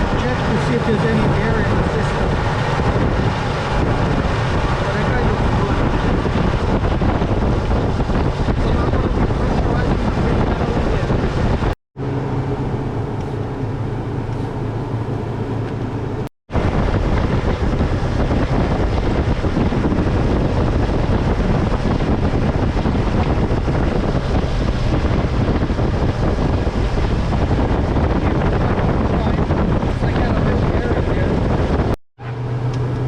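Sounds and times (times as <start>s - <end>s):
steady rushing noise: 0.0s - 32.0s.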